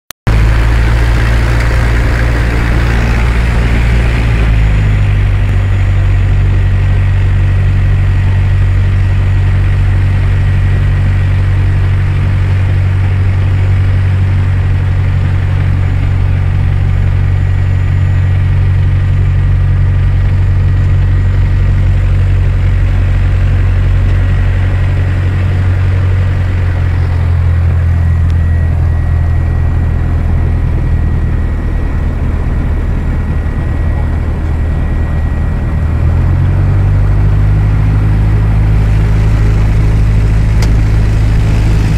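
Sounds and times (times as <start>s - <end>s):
aircraft engine and propeller drone: 0.3s - 41.9s.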